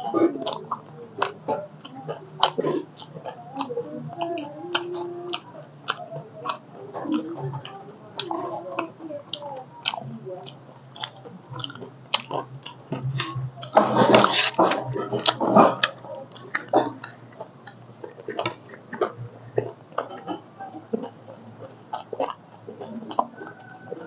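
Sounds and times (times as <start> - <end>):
crunchy snack chewing: 0.0 - 24.0
steady low hum: 0.0 - 24.0.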